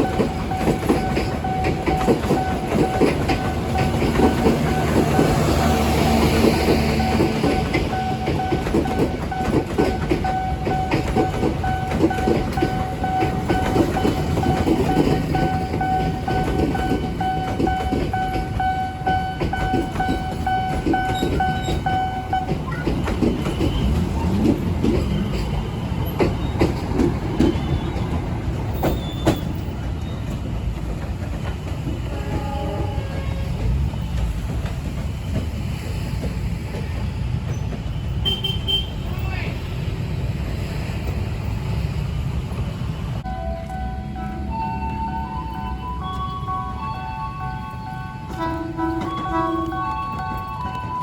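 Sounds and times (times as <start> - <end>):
train wheels clattering over rail joints: 0.0 - 38.4, 48.1 - 51.0.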